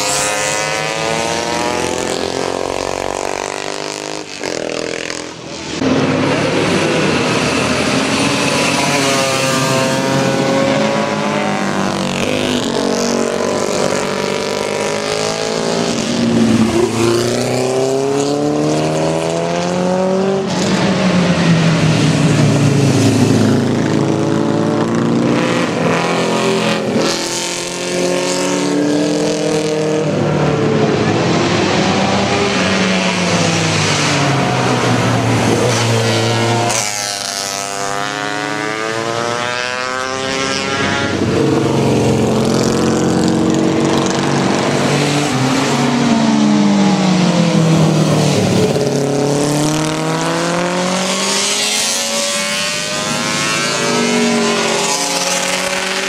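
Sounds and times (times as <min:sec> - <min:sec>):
motorcycles passing by: 0:00.0 - 0:56.0.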